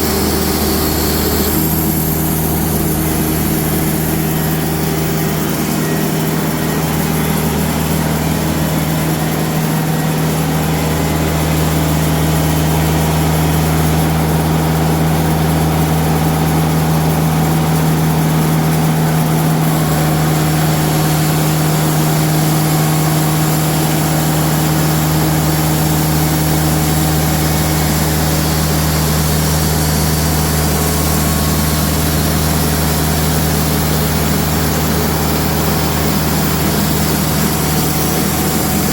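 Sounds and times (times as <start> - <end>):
sawmill diesel engine running: 0.0 - 38.9.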